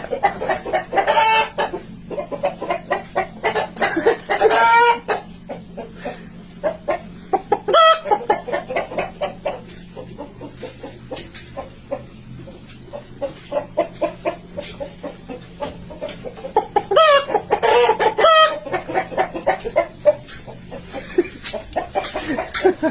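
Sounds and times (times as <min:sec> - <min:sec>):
person imitating hen clucking: 0:00.0 - 0:10.8, 0:13.3 - 0:22.9.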